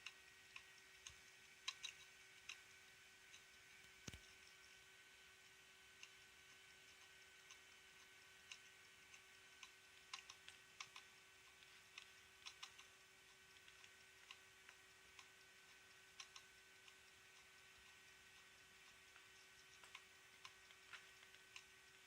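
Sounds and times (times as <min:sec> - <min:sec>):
hard disk clicking: 0:00.0 - 0:22.0
hum of spinning drive: 0:00.0 - 0:22.0.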